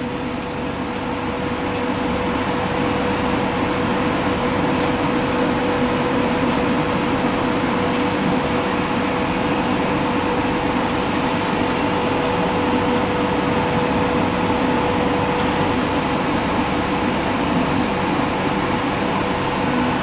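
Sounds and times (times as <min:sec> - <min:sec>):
machine hum with whine: 0:00.0 - 0:20.0.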